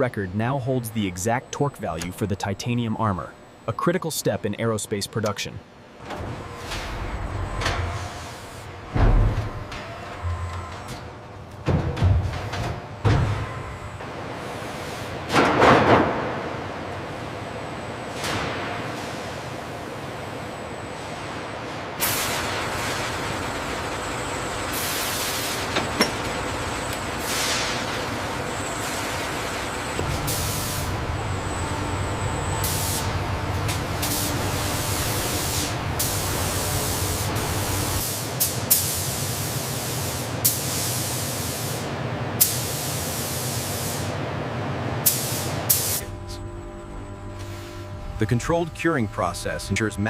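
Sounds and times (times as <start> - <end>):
low factory hum: 0.0 - 50.0.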